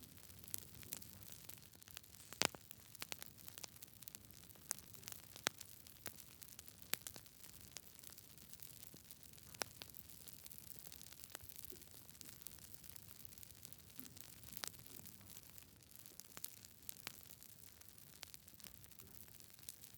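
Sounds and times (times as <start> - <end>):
soft hiss of fire: 0.0 - 19.9
wood fire crackling: 0.0 - 19.9.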